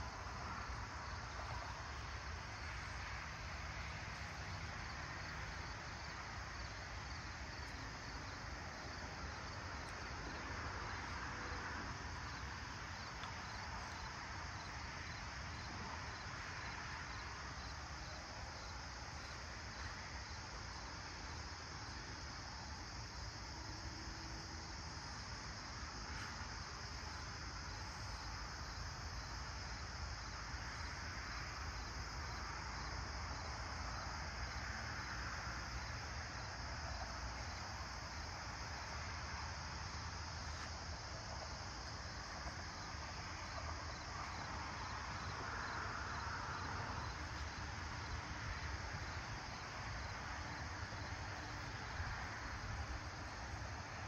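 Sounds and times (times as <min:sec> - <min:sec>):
insect chorus trilling: 0:09.1 - 0:54.0.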